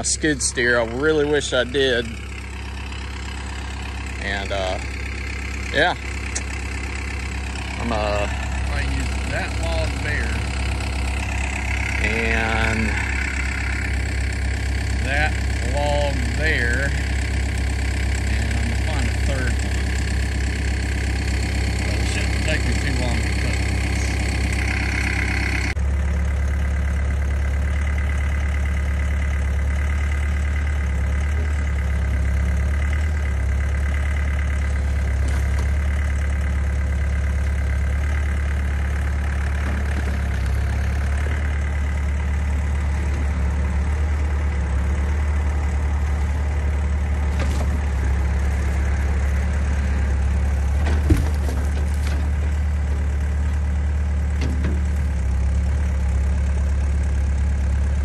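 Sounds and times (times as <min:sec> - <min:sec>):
sawmill engine idling: 0:00.0 - 0:58.0.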